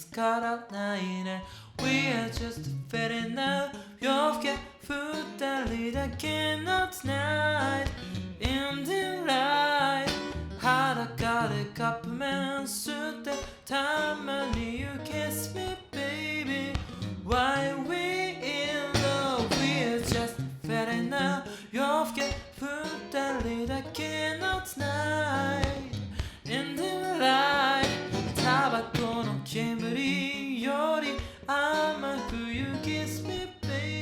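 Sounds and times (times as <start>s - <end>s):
person singing: 0.0s - 34.0s
acoustic guitar: 1.5s - 34.0s.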